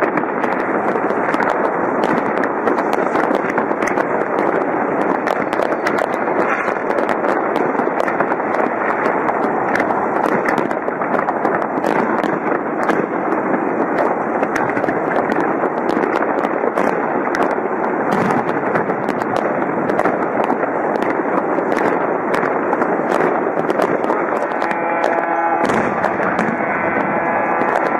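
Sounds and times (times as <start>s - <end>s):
fireworks bangs and crackling: 0.0s - 27.9s.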